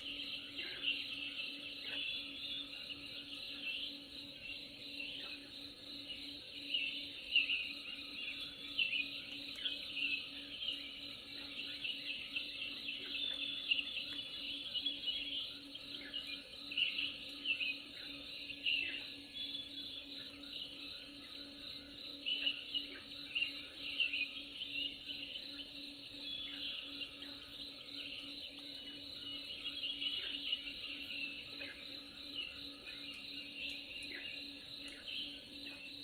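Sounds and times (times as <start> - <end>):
insects trilling: 0.0 - 36.0.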